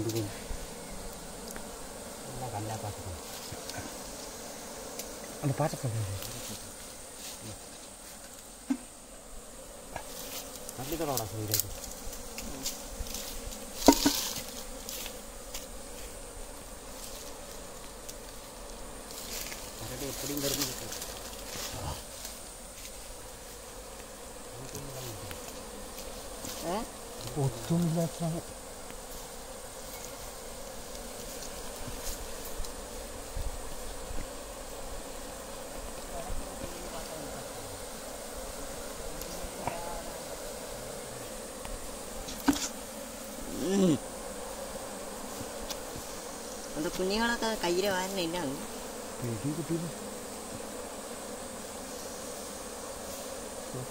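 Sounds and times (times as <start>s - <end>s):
bees buzzing: 0.0s - 53.9s.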